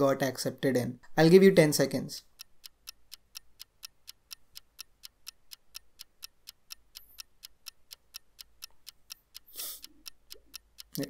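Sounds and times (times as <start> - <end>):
clock ticking fast: 0.0 - 11.0.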